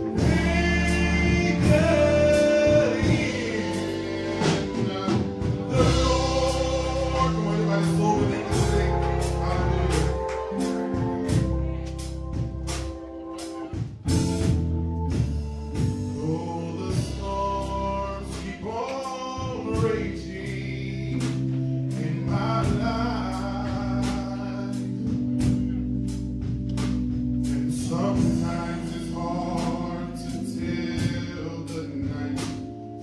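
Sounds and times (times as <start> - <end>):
man singing into a microphone: 0.0 - 11.8, 16.0 - 25.8, 27.5 - 32.7
drums: 0.0 - 20.5, 21.1 - 32.7
sustained held chords: 0.0 - 33.0.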